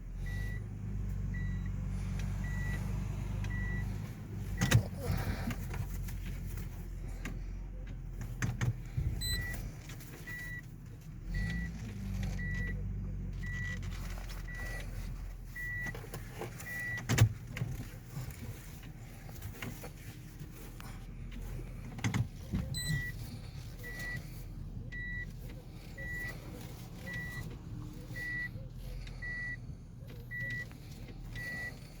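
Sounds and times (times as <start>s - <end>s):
low hum of car: 0.0s - 32.0s
car warning chime beeping: 0.1s - 19.8s, 21.4s - 32.0s.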